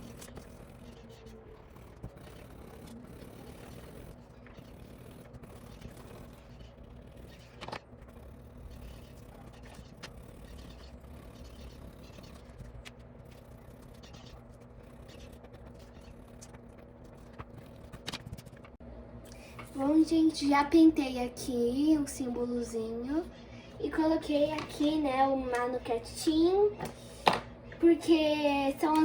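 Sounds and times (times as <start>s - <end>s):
faint background hum: 0.0s - 29.0s.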